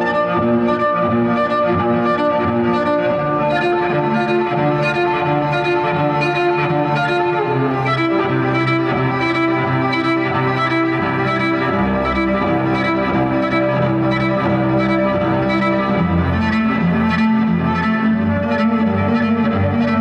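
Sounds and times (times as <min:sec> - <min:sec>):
cello bowed drone: 0:00.0 - 0:20.0.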